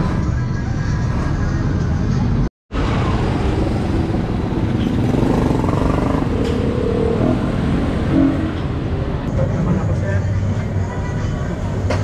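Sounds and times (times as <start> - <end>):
motorcycles: 0.0 - 12.0
vehicle engines rumbling: 0.0 - 12.0.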